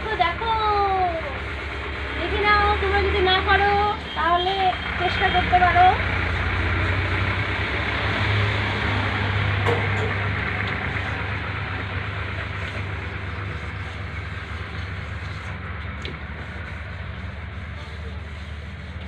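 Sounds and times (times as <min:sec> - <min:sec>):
engine low hum: 0:00.0 - 0:19.0.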